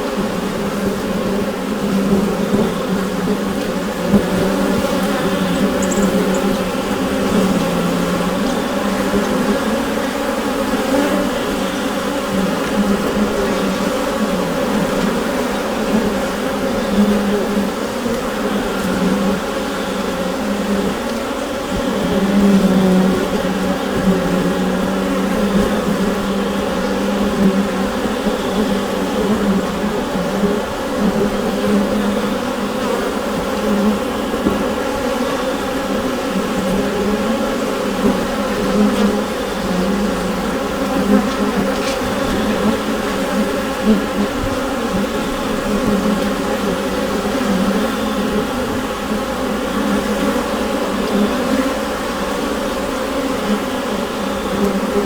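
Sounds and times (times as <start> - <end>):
honeybees buzzing in hive: 0.0 - 55.0.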